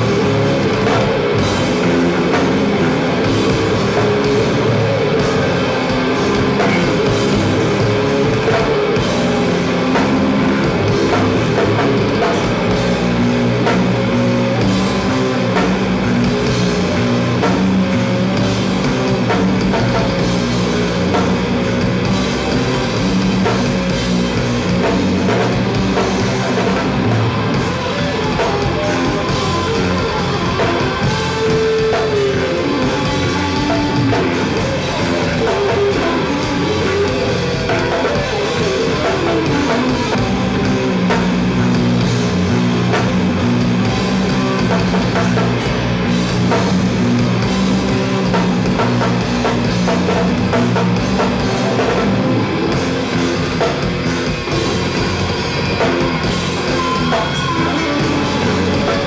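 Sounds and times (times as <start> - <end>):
bass guitar: 0.0 - 59.0
distorted electric guitar riffing: 0.0 - 59.0
drum kit: 0.0 - 59.0
heavy metal band playing: 0.0 - 59.0.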